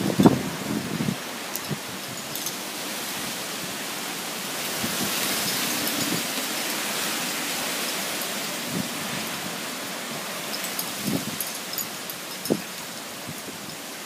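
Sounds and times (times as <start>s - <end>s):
strong wind rushing through trees: 0.0s - 14.0s.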